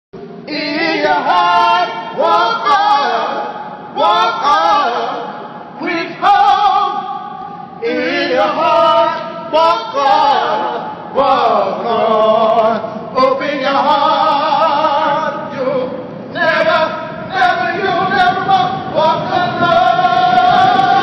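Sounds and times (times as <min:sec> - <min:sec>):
men singing together: 0:00.5 - 0:21.0.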